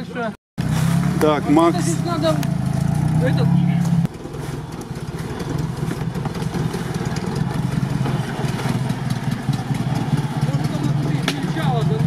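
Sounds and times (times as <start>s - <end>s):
vehicle engine running at low revs: 0.6s - 12.0s.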